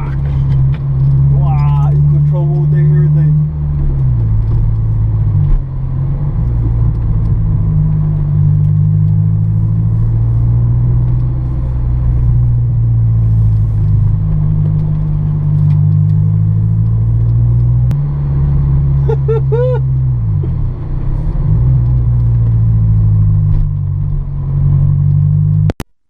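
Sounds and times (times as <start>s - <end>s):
car engine droning while driving: 0.0s - 25.8s.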